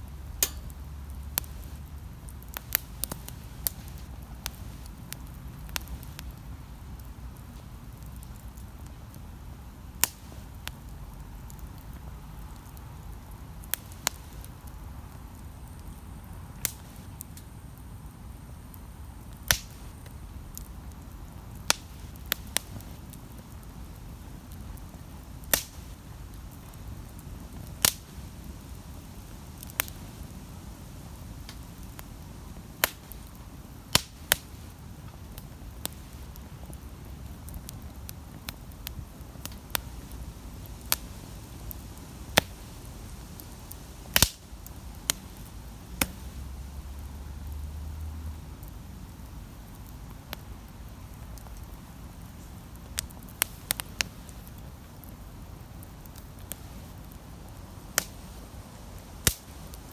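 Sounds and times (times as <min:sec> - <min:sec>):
campfire rumble: 0:00.0 - 0:59.9
fire crackles and pops: 0:00.0 - 0:59.9.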